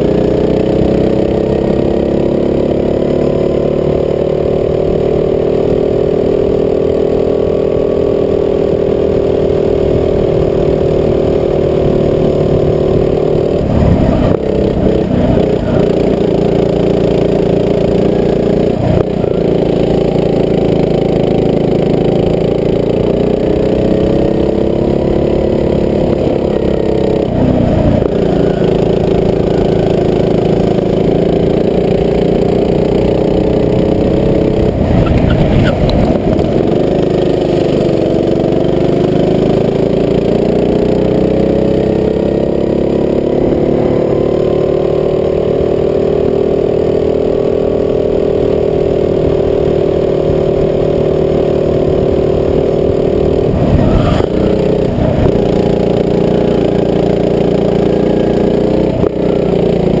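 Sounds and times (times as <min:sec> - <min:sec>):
go-kart engine running hard: 0:00.0 - 1:00.0.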